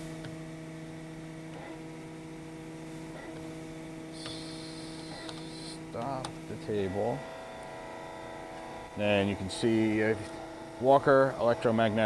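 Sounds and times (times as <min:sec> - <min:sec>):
faint high whine: 0:00.0 - 0:12.0
grinder motor hum: 0:01.1 - 0:12.0.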